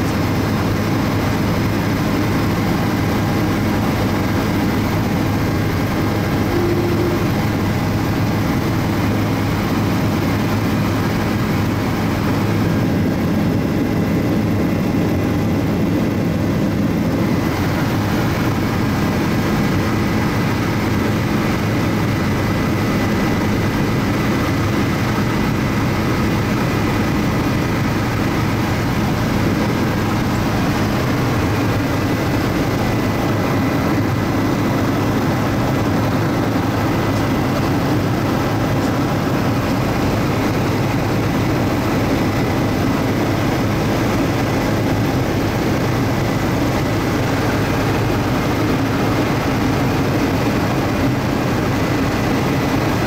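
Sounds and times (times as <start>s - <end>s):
helicopter drone inside cabin: 0.0s - 53.0s
high steady whine: 0.0s - 53.0s.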